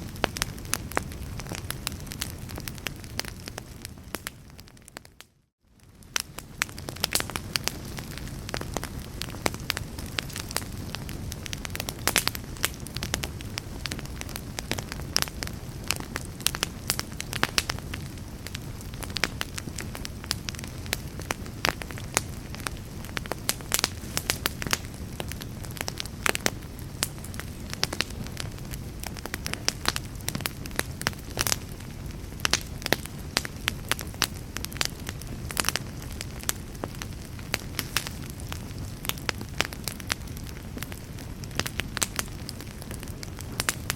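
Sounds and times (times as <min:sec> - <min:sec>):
low steady fire rumble: 0:00.0 - 0:43.9
wood fire crackling and popping: 0:00.0 - 0:43.9.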